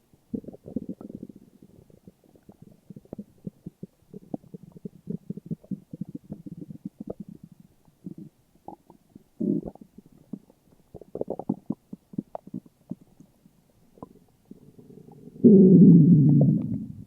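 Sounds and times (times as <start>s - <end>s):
stomach growling and gurgling: 0.3s - 17.0s.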